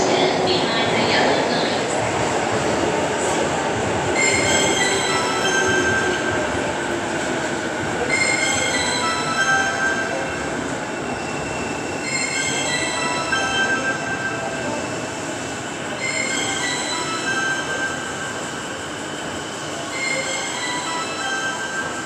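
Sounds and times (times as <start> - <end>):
escalator squeals: 4.2 - 22.0.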